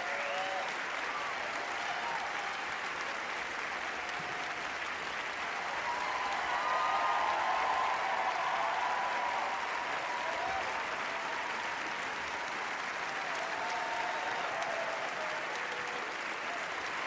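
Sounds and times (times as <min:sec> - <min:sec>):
audience applauding: 0:00.0 - 0:17.0
audience cheering: 0:00.0 - 0:17.0.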